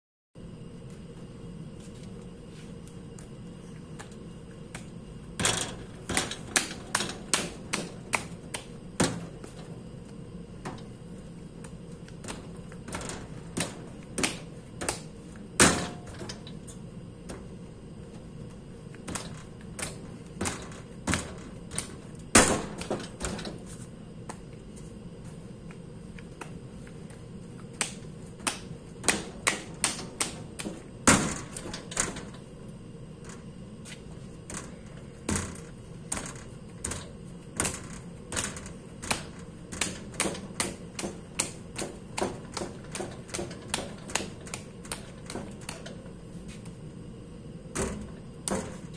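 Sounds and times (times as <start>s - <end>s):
faint steady hum: 0.4s - 48.9s.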